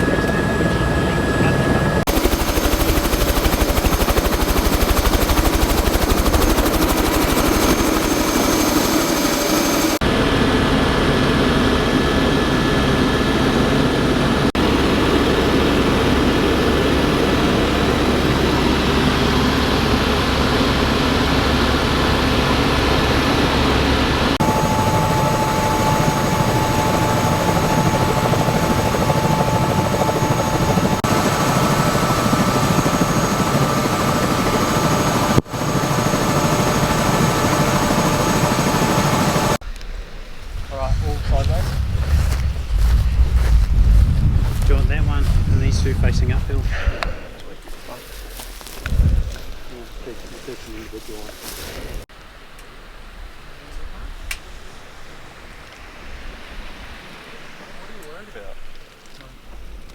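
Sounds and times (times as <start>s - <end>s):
helicopter rotor and engine drone: 0.0s - 39.6s, 40.8s - 51.5s.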